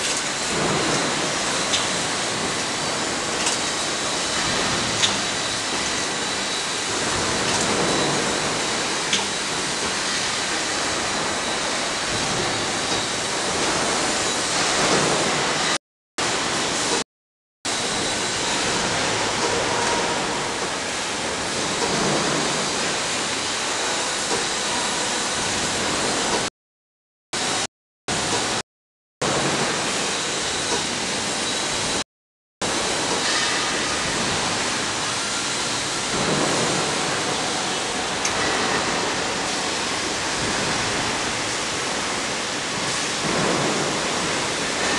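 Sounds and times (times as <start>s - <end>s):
factory floor rushing noise: 0.0s - 17.0s, 17.7s - 26.5s, 27.4s - 28.6s, 29.2s - 32.0s, 32.6s - 44.9s.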